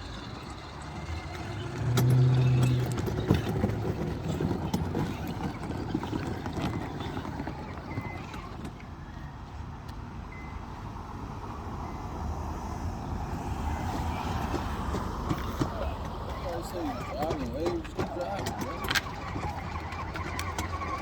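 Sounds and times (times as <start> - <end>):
vehicle running on street: 0.0 - 21.0.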